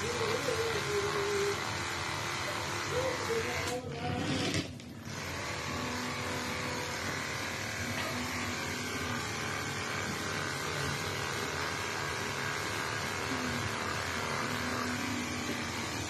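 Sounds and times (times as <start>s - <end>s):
electric clippers humming: 0.0s - 16.0s.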